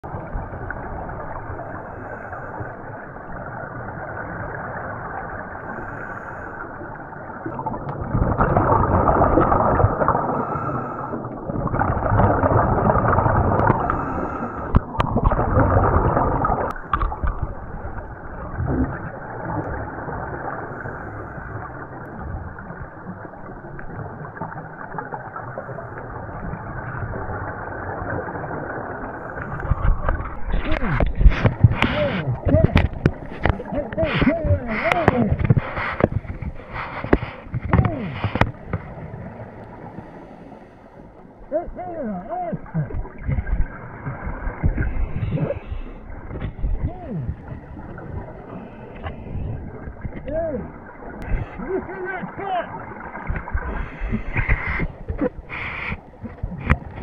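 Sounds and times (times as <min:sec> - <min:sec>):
muffled underwater noise: 0:00.0 - 0:57.0.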